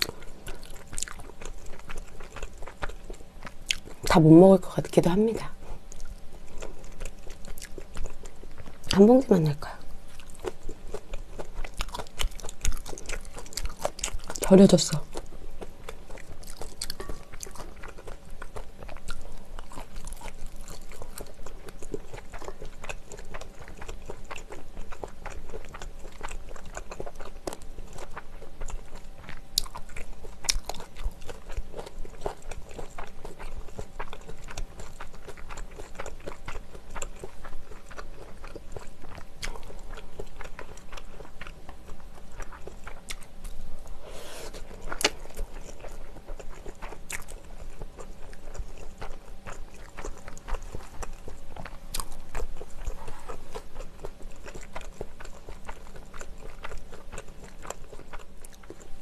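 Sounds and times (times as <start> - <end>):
close chewing and crunching: 0.0 - 59.0.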